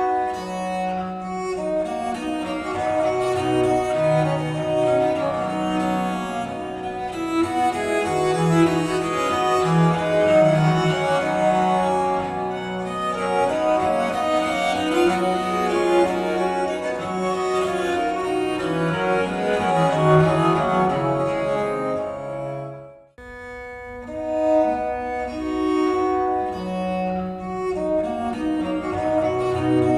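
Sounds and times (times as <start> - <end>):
cello and bowed strings music: 0.0 - 29.9.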